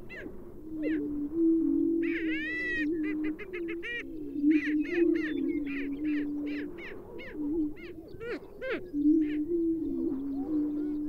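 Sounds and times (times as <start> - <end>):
prairie-chickens booming: 0.0 - 11.0.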